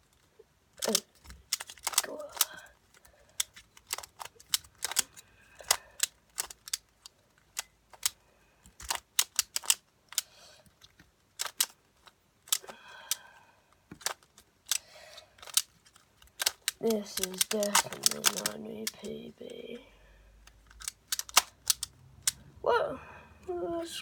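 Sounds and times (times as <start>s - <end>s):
puzzle cube plastic clicks: 0.0s - 19.7s, 20.4s - 22.4s.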